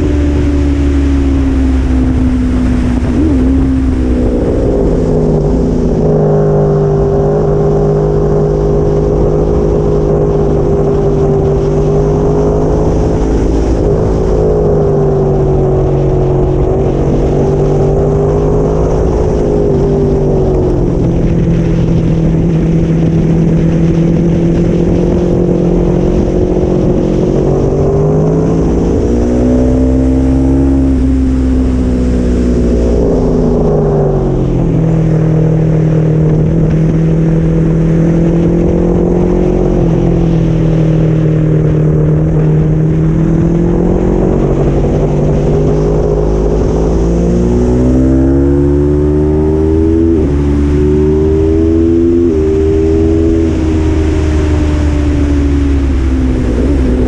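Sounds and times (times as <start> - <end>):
motorcycle engine at high revs: 0.0 - 57.0
wind rumble on microphone: 0.0 - 57.0.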